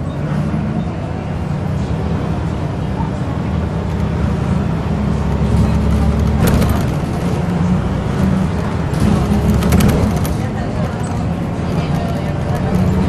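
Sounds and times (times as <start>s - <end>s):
diesel bus engine humming: 0.0s - 13.0s.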